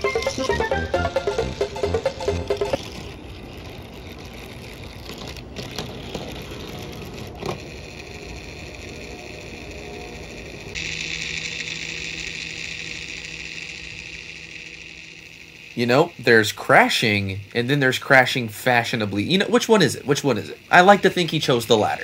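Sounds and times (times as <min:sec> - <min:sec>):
toy motor whirring: 0:00.0 - 0:22.0.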